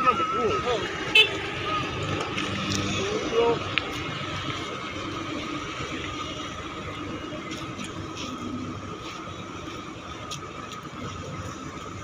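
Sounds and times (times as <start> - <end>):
machinery hum with high whine: 0.0 - 12.0.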